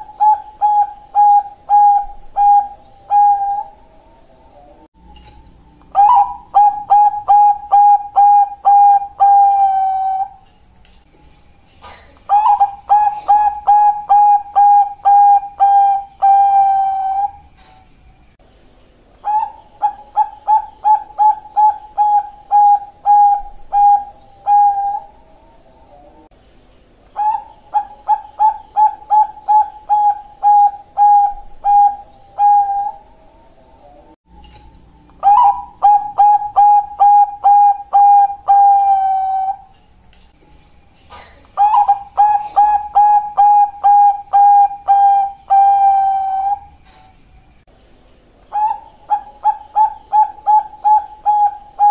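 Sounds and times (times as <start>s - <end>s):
dove cooing: 0.0s - 4.9s, 5.8s - 10.5s, 11.1s - 17.8s, 19.2s - 26.3s, 27.2s - 34.2s, 35.1s - 39.8s, 40.5s - 47.2s, 48.5s - 51.9s.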